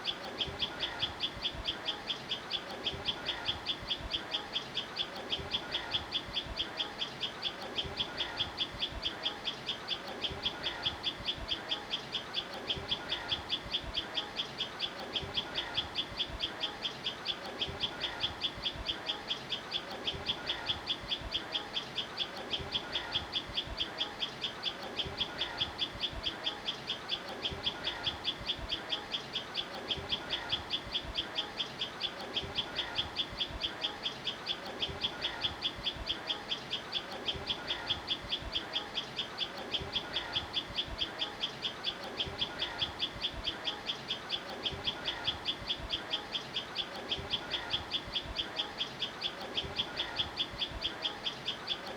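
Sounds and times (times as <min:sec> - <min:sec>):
high repeated bird chirp: 0:00.0 - 0:51.9
softer bird calls: 0:00.0 - 0:51.9.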